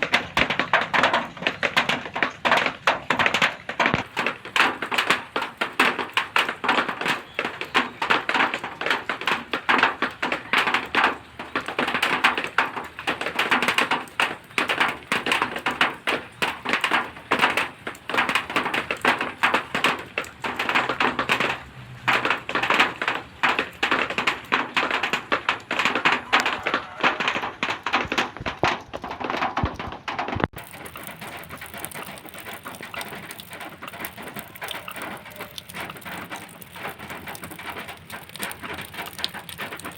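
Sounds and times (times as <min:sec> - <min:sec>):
steady hiss of rain: 0:00.0 - 0:28.3, 0:30.6 - 0:39.9
rain pattering on metal sheeting: 0:00.0 - 0:39.9.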